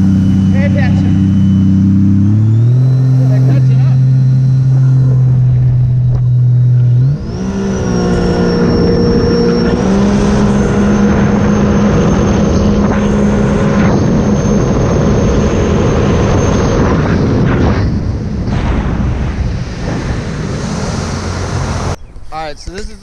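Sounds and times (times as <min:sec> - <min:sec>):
high engine whine: 0:00.0 - 0:23.0
jet ski engine accelerating: 0:00.0 - 0:23.0.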